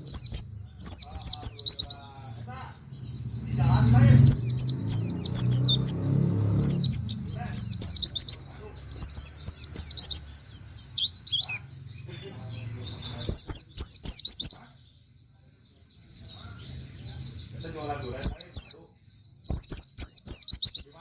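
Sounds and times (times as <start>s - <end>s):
bird chirping in rapid bursts: 0.0s - 21.0s.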